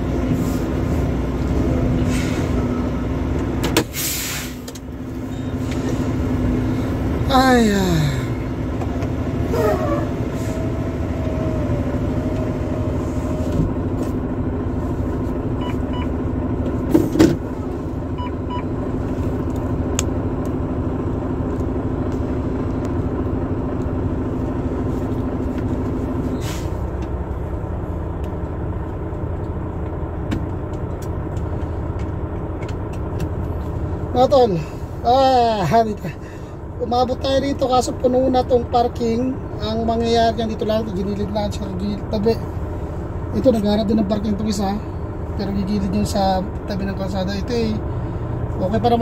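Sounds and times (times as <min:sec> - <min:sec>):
diesel engine rumble in cab: 0:00.0 - 0:49.0.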